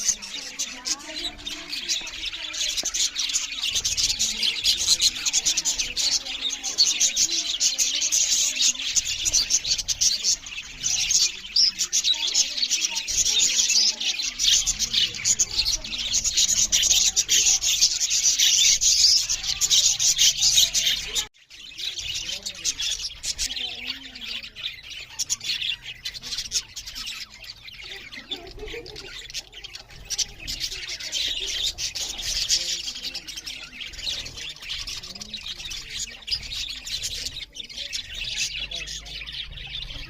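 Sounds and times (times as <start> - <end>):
budgerigars chattering and chirping: 0.0 - 40.0.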